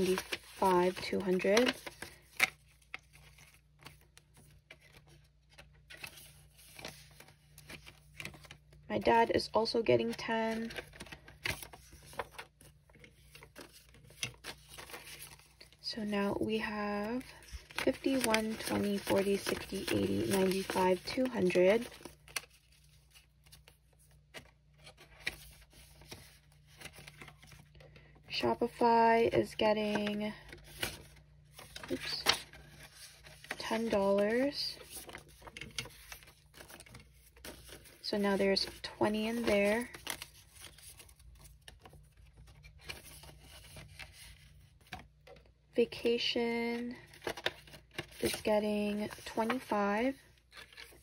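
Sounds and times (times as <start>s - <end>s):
banknotes and plastic envelope rustling: 0.0s - 51.0s.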